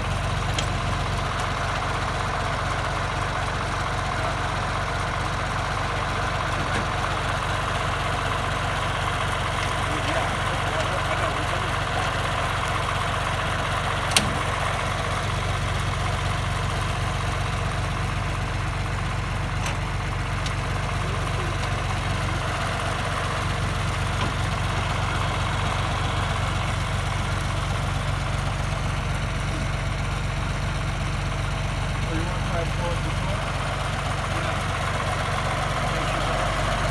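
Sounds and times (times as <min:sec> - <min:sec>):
tractor engine idling: 0:00.0 - 0:36.9.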